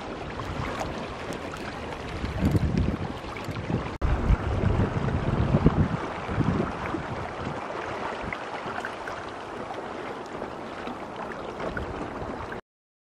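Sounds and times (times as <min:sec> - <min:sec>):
water rushing along hull: 0:00.0 - 0:12.6
wind buffeting microphone: 0:00.0 - 0:12.6.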